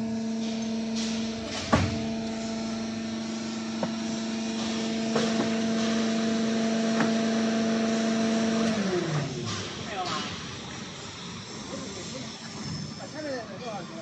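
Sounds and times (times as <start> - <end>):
hydraulic machine humming: 0.0 - 13.0.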